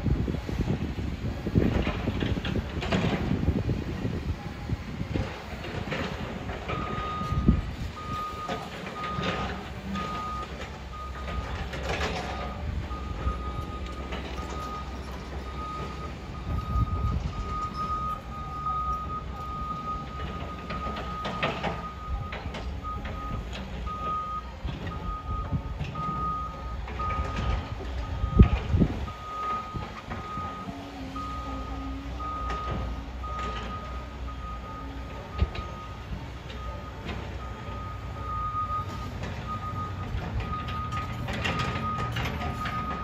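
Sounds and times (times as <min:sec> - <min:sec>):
diesel engine running: 0:00.0 - 0:43.0
backup alarm beeping: 0:06.7 - 0:43.0.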